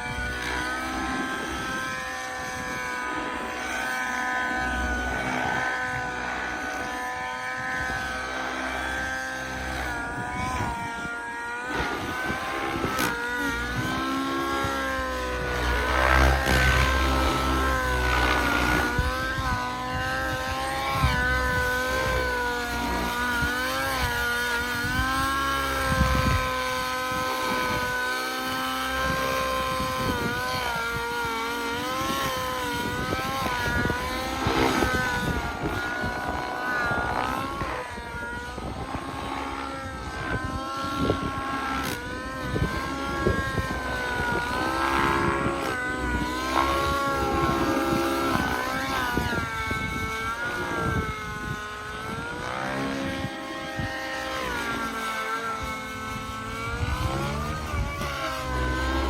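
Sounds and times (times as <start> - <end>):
rc helicopter engine and rotor whine: 0.0 - 59.0.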